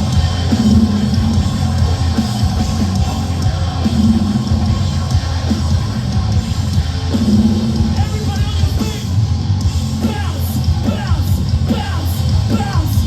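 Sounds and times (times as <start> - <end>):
live heavy metal band: 0.0 - 13.0.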